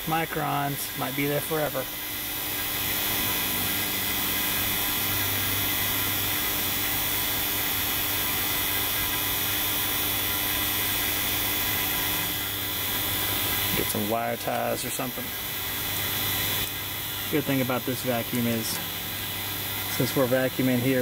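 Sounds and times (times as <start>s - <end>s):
vacuum pump motor hum: 0.0s - 21.0s.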